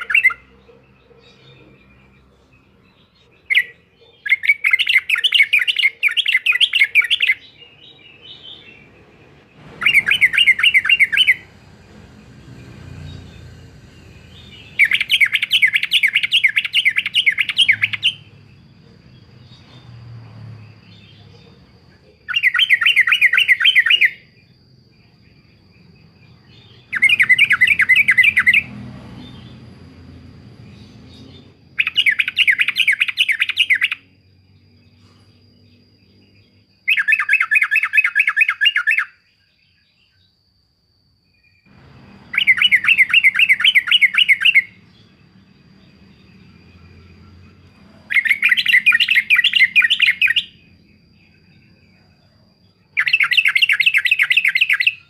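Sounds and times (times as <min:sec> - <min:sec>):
bulbul singing: 0:00.0 - 0:40.5, 0:41.2 - 0:55.0.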